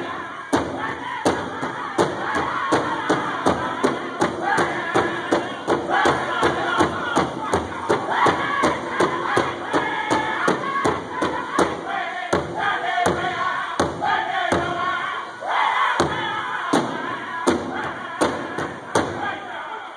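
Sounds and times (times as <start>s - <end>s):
group singing in high voices: 0.0s - 19.9s
large drum beating: 0.5s - 14.8s, 16.0s - 19.3s.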